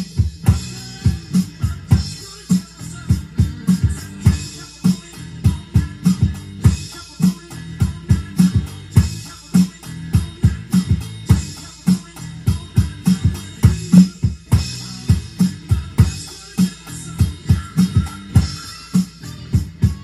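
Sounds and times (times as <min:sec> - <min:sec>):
electronic drum kit rock beat: 0:00.0 - 0:20.0.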